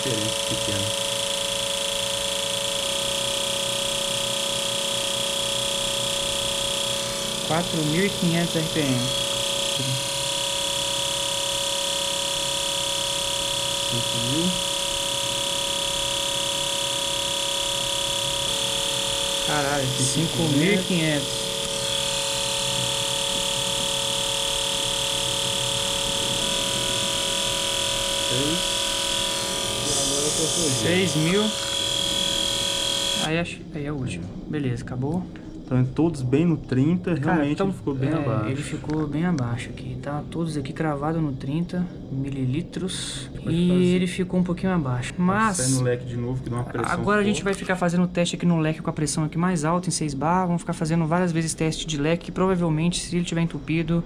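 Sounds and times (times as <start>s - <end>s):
injectors pulsing rapidly: 0.0s - 33.6s, 37.1s - 39.2s, 45.3s - 45.9s, 46.8s - 54.0s
buzzing hum with whine: 0.0s - 54.0s.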